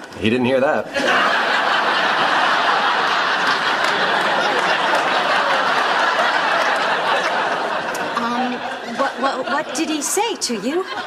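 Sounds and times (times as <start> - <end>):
studio audience laughing: 0.9 - 11.0.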